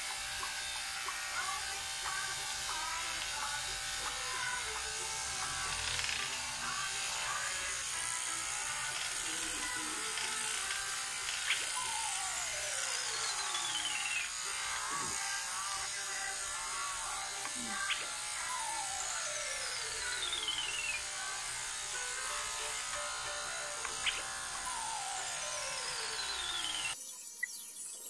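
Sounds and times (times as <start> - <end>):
electric hair clippers buzzing: 0.0 - 27.8
music playing: 0.5 - 27.0.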